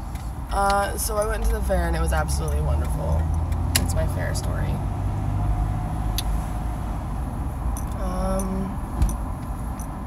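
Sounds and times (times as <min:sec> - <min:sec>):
car engine rumble and road noise: 0:00.0 - 0:10.0.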